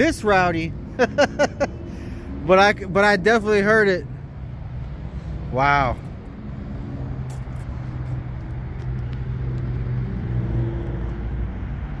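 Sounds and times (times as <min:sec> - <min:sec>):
car engine running with low drone: 0:00.0 - 0:12.0.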